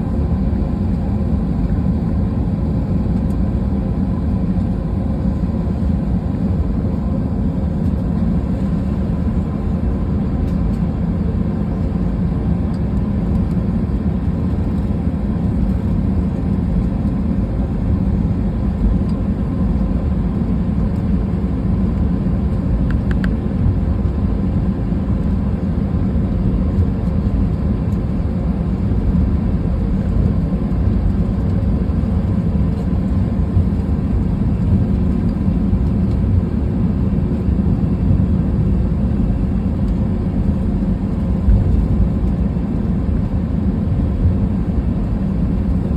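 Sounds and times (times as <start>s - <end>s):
jet cabin rumble: 0.0s - 45.9s.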